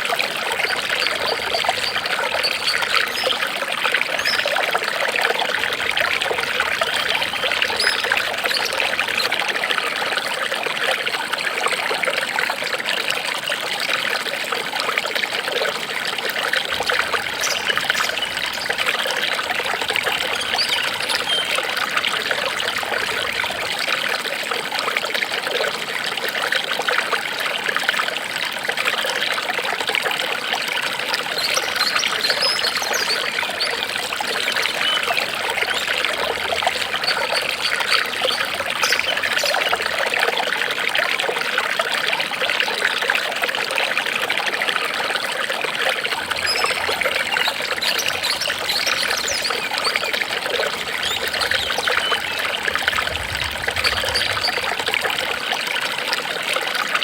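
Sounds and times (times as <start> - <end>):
water trickling and babbling: 0.0 - 57.0.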